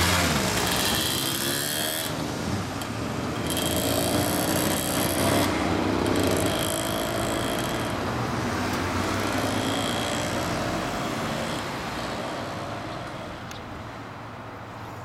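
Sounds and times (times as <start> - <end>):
motorcycles pulling away: 0.0 - 13.4.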